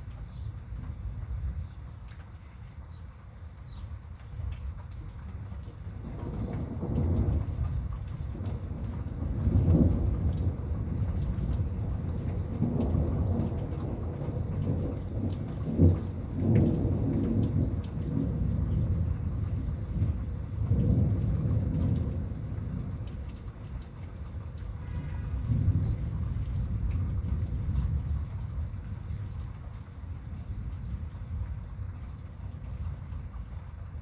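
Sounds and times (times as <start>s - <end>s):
rain pattering: 0.0s - 34.0s
thunder rumbling: 6.0s - 34.0s.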